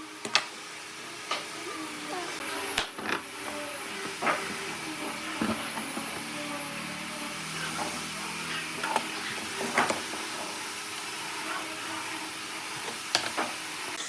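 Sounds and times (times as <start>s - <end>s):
steady mechanical hiss: 0.0s - 14.0s.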